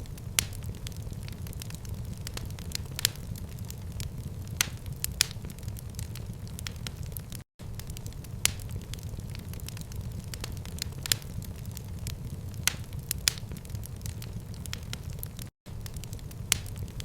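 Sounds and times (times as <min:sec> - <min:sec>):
fire crackling in fireplace: 0:00.0 - 0:17.0
sharp pops of fire: 0:00.0 - 0:17.0.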